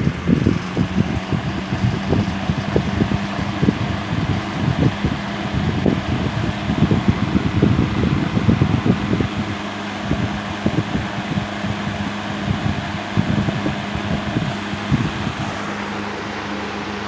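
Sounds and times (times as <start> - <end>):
box fan motor humming: 0.0 - 17.0
fan rattling against tabletop: 0.0 - 17.0.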